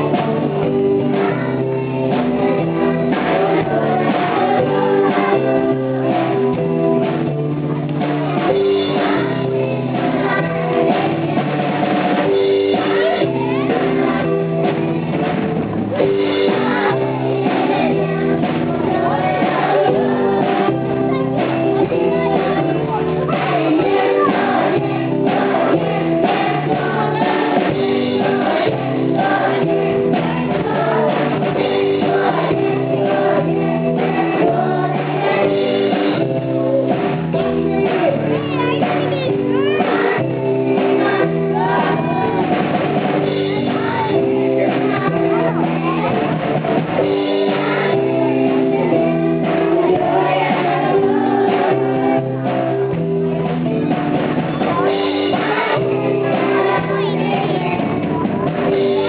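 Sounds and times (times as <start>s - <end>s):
girls singing together: 0.0s - 7.3s, 8.3s - 15.2s, 15.9s - 53.0s, 54.5s - 59.0s
drum kit: 0.0s - 59.0s
keyboard: 0.0s - 59.0s.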